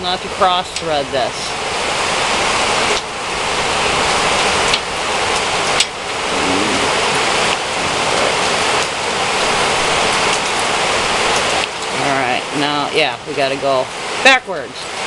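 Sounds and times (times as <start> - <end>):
steady rushing hiss: 0.0 - 15.0.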